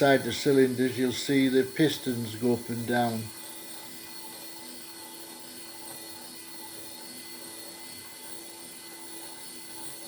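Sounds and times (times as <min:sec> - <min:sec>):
model engine whirring: 0:00.0 - 0:10.0.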